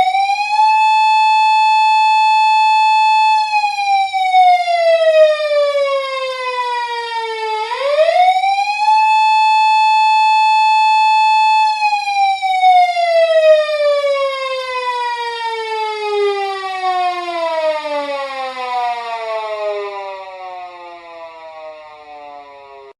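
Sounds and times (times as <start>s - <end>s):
police car siren wailing: 0.0s - 22.9s.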